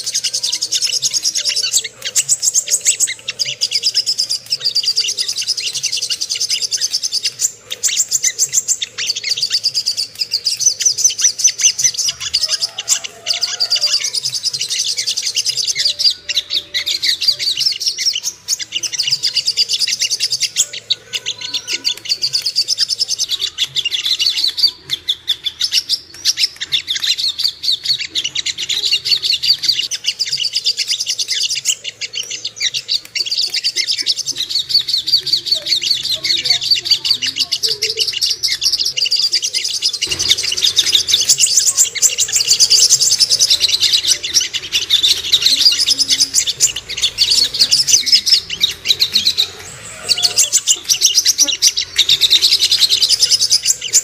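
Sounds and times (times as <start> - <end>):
songbird chattering song: 0.0 - 54.0.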